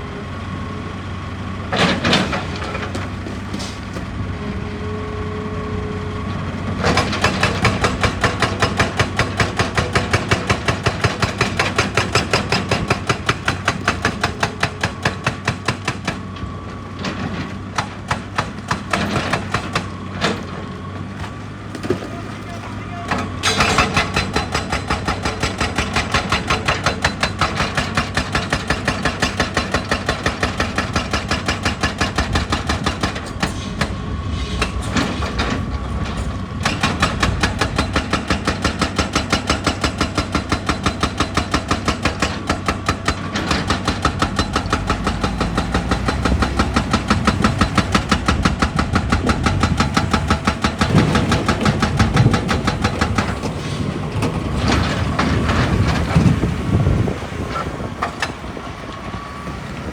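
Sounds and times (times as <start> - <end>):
machine engine: 0.1 - 59.9
hydraulic breaker hammering rock: 6.8 - 34.0, 34.6 - 58.7.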